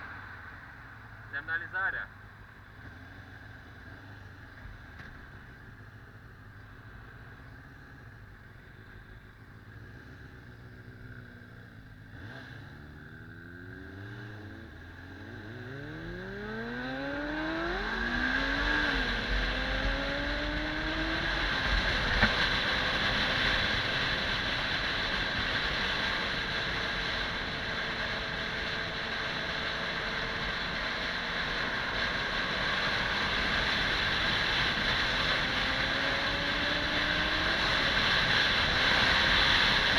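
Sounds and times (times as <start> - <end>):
motorcycle engine accelerating: 2.6 - 39.9.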